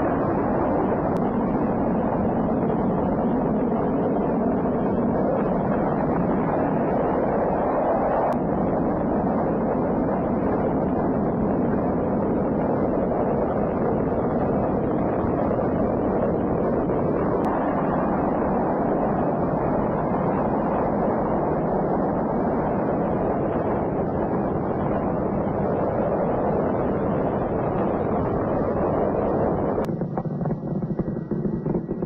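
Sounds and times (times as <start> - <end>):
rocket engines rumbling: 0.0 - 32.0.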